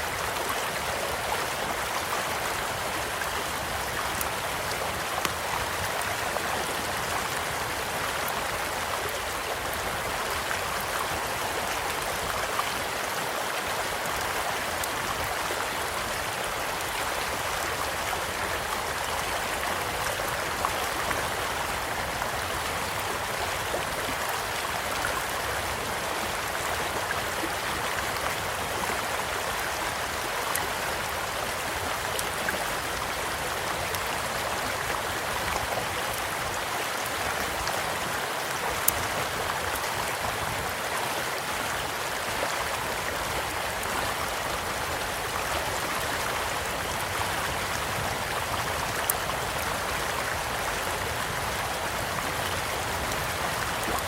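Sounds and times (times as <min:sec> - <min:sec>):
small stream flowing: 0:00.0 - 0:54.0.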